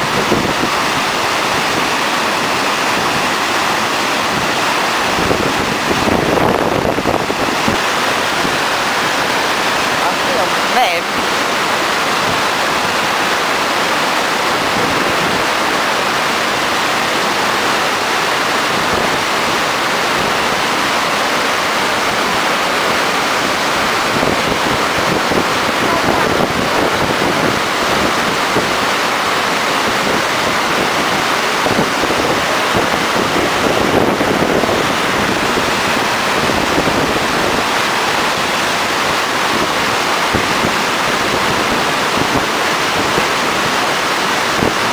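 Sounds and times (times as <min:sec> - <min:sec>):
water rushing over weir: 0:00.0 - 0:44.9.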